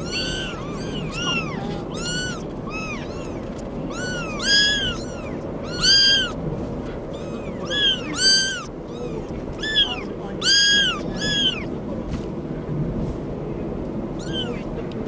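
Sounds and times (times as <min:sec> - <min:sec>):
kittens mewing: 0:00.0 - 0:11.8, 0:14.2 - 0:14.7.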